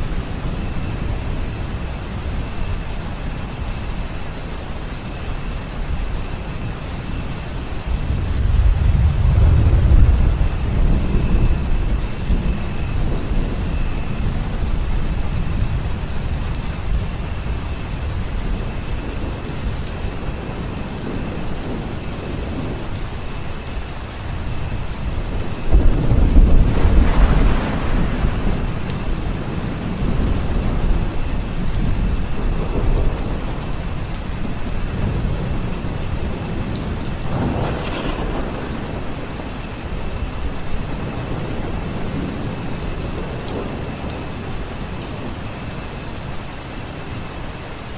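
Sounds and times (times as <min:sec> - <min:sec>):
thunder rumbling: 0:00.0 - 0:46.6
steady rain: 0:00.0 - 0:47.9.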